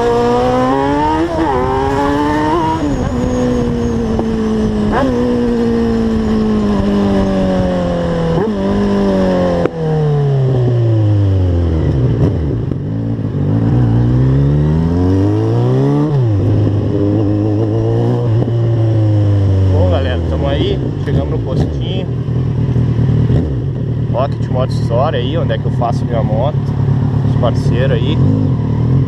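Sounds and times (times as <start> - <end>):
motorcycle engine downshifting: 0.0 - 24.1.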